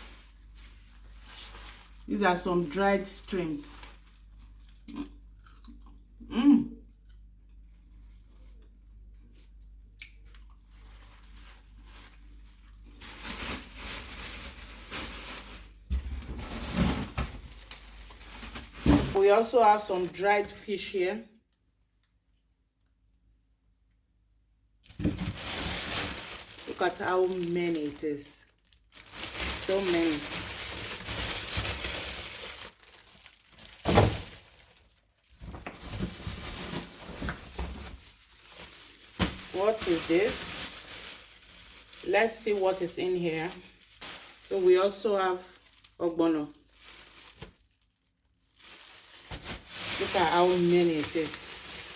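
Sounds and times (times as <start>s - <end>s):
plastic packaging crinkling: 0.0s - 5.6s, 10.3s - 20.3s, 24.8s - 51.9s.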